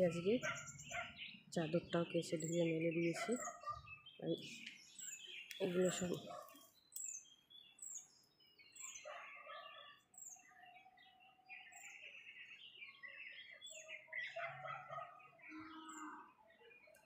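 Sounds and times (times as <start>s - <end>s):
lower bird twitter: 0.0s - 17.0s.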